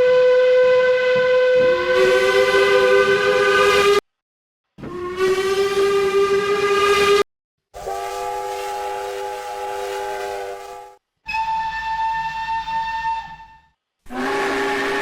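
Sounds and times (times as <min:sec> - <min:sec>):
train whistle blasts: 0:00.0 - 0:04.0, 0:04.9 - 0:07.2, 0:07.8 - 0:15.0.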